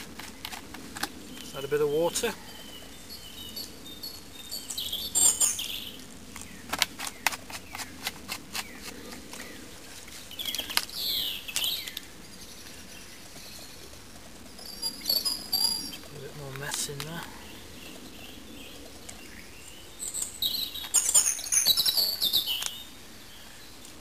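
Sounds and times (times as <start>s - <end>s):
high falling bird calls: 0.0s - 24.0s
wild birds chirping: 0.0s - 24.0s.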